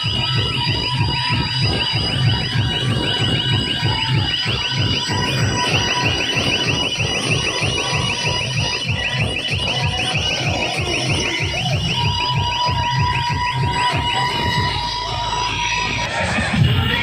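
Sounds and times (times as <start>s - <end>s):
heavy pounding bass beats: 0.0s - 17.0s
siren effect chirps: 0.0s - 17.0s.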